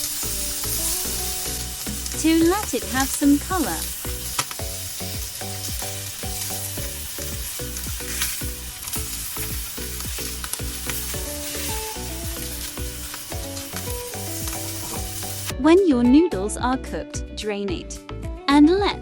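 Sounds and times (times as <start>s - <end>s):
meat sizzling in a frying pan: 0.0s - 15.5s
background music with beat: 0.0s - 19.0s.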